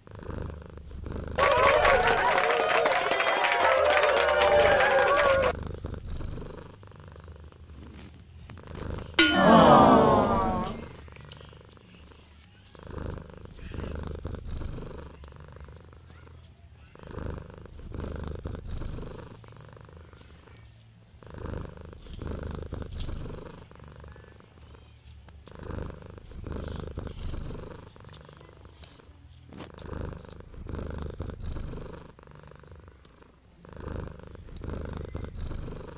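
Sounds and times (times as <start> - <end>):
cat purring: 0.0 - 1.4, 5.4 - 9.4, 10.0 - 35.9.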